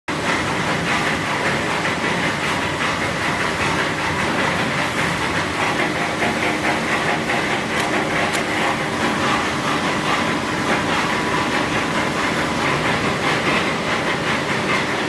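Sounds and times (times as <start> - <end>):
irregular clatter: 0.1 - 15.0
recycling machinery din: 0.1 - 15.0.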